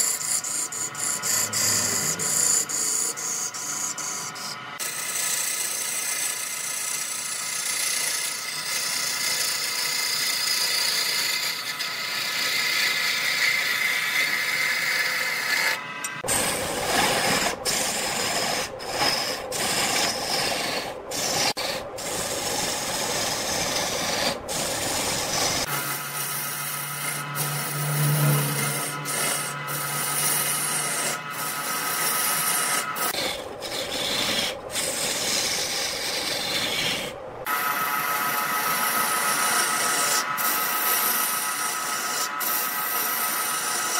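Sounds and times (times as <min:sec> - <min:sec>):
turning tool scraping wood: 0:00.0 - 0:43.9
wood lathe humming: 0:00.0 - 0:43.9.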